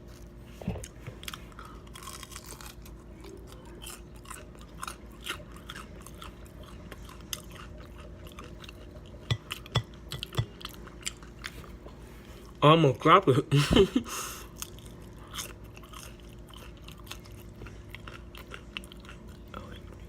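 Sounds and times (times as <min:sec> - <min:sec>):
person chewing crunchy food: 0:00.0 - 0:12.6, 0:14.4 - 0:20.0.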